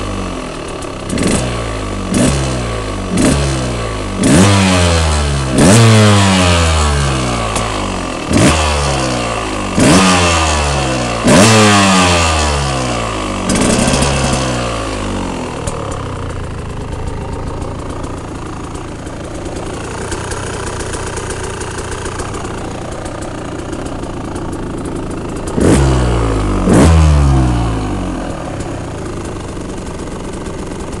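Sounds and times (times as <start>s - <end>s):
engine idling: 0.0s - 31.0s
two-stroke engine revving: 0.0s - 31.0s.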